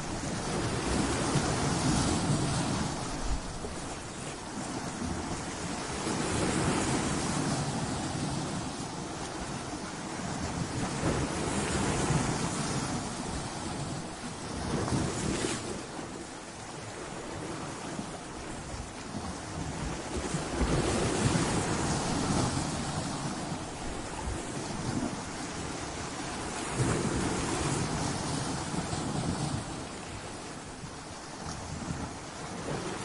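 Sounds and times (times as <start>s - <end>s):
waves breaking on rocks: 0.0s - 16.1s, 17.0s - 33.0s.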